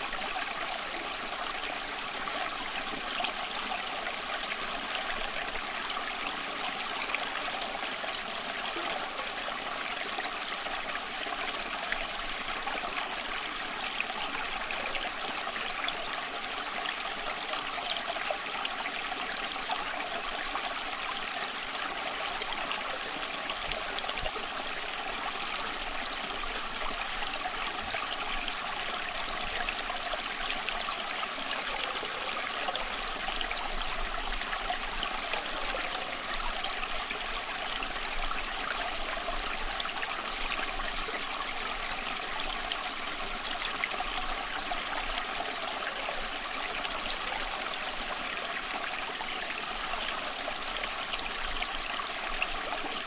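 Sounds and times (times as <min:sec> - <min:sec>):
stream running over stones: 0:00.0 - 0:53.0.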